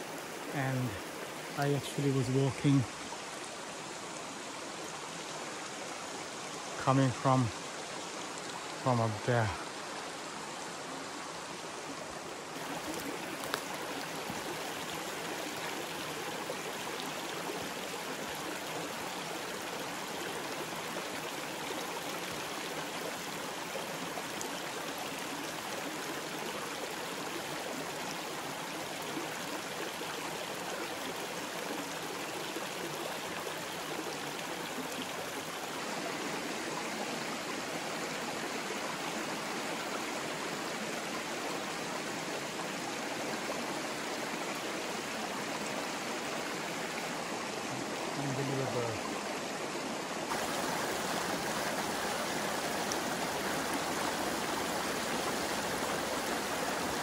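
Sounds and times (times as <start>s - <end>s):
creek waterfall running: 0.0s - 57.0s.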